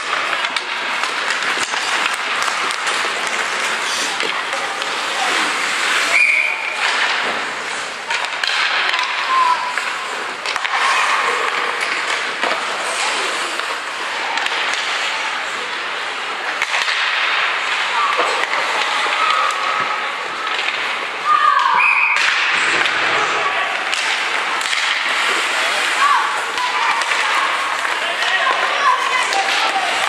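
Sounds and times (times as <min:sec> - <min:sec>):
hockey sticks and puck clacking: 0:00.0 - 0:30.0
skates scraping on ice: 0:00.0 - 0:30.0.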